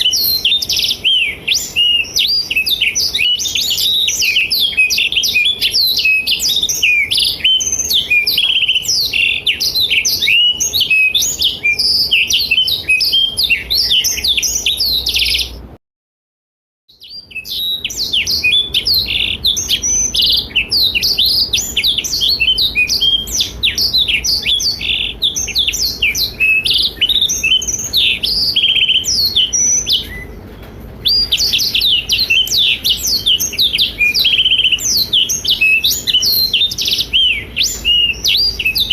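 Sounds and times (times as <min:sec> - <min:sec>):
canary warbling song: 0:00.0 - 0:15.7, 0:16.9 - 0:38.9.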